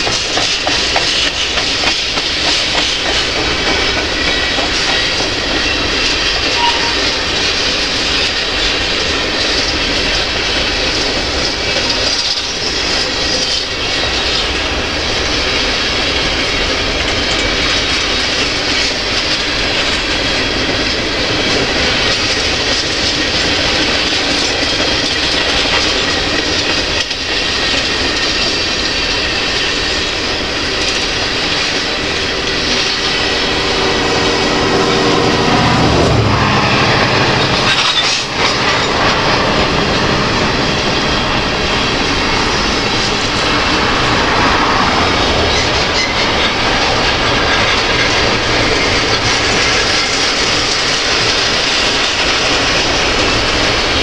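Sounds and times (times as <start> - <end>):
freight train wheels rumbling: 0.0 - 54.0
train wheels squealing: 0.0 - 54.0.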